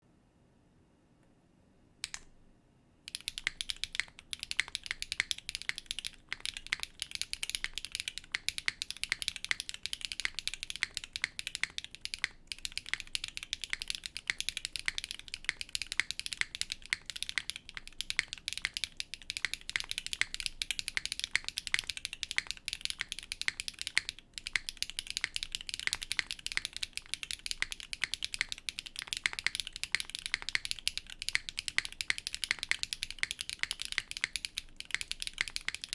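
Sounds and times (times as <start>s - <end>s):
mechanical keyboard typing: 2.0s - 2.3s, 3.1s - 35.9s.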